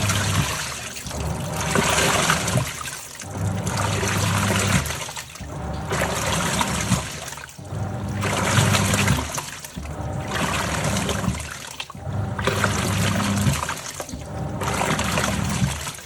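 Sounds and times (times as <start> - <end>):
drive motor hum: 0.0 - 16.0
washing machine water swishing: 0.0 - 16.0.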